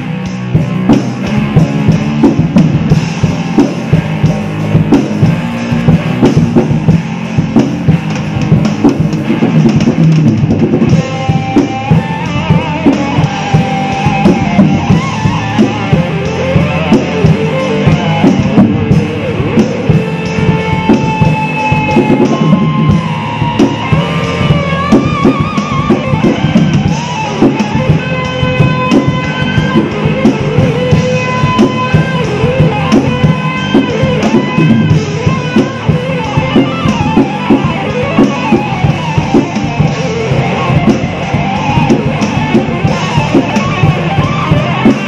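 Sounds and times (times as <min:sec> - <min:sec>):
rock drumming: 0:00.0 - 0:45.0
wavering lead guitar melody: 0:00.0 - 0:45.0.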